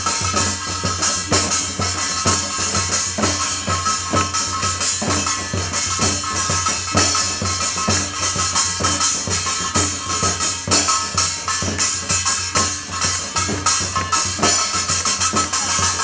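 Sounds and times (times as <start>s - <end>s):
drum kit with cymbals: 0.0s - 16.0s.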